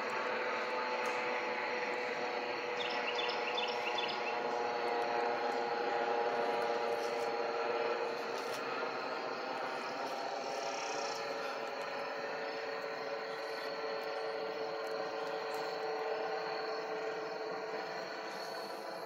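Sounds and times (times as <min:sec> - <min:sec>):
helicopter flying past: 0:00.0 - 0:19.0.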